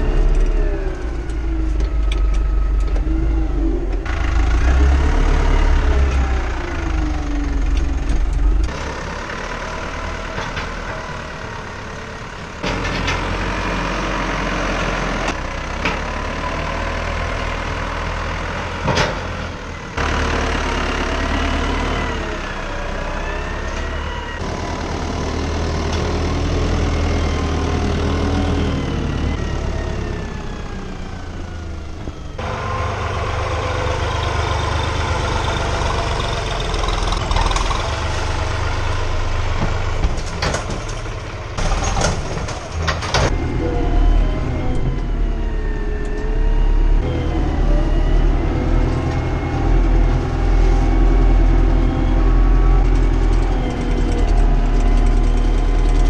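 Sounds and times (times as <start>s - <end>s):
tractor engines revving: 0.0s - 56.0s.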